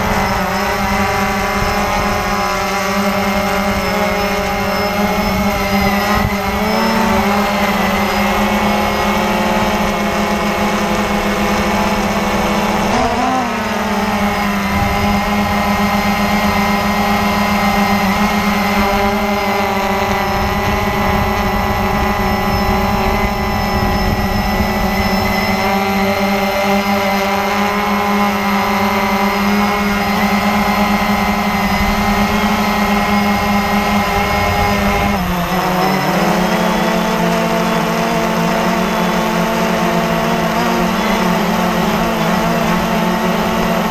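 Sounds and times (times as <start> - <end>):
drone propellers humming: 0.0 - 43.9.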